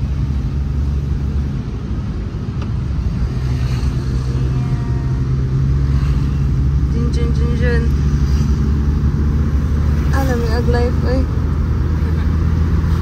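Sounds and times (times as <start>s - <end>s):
van engine and road rumble: 0.0s - 13.0s.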